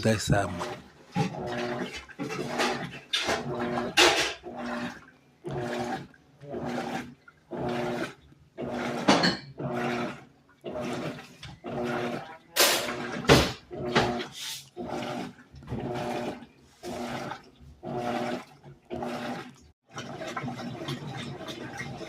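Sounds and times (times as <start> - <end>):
washing machine motor humming: 0.0 - 22.0
water swishing: 0.0 - 22.0.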